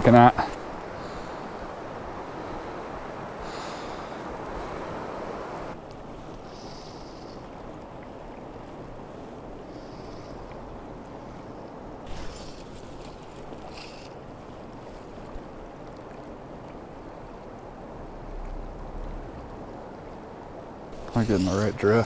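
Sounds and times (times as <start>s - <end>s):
river water flowing past rocks: 0.0s - 22.0s.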